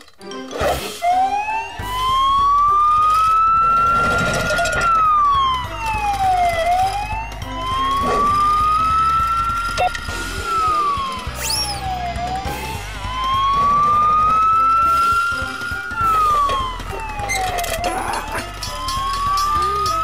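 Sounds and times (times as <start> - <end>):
police siren wailing: 0.8 - 20.0
low rhythmic pulse: 0.9 - 20.0.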